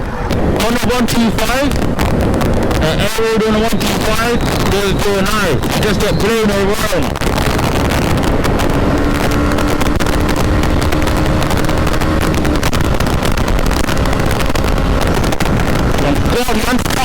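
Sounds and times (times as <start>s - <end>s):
wind buffeting microphone: 0.0s - 17.0s
motorcycle engine running: 1.2s - 17.0s.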